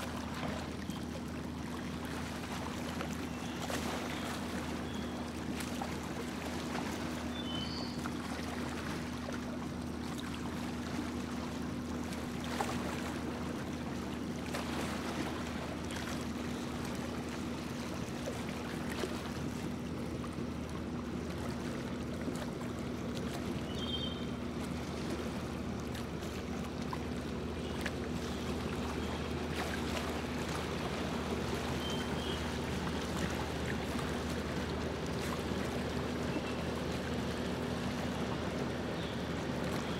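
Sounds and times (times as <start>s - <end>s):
boat motor droning: 0.0s - 39.9s
water rushing past hull: 0.0s - 39.9s.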